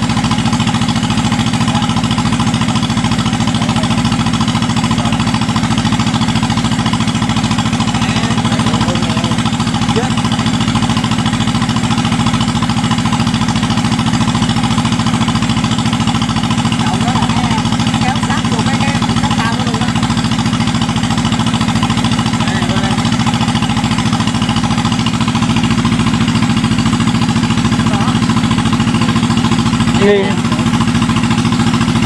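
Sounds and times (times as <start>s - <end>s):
harvester engine running steadily: 0.0s - 32.0s.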